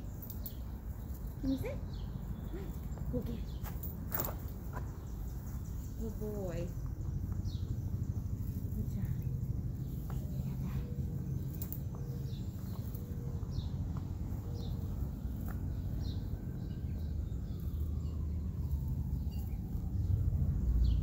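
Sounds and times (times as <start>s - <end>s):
bird chirping: 0.0s - 21.0s
low background rumble: 0.0s - 21.0s.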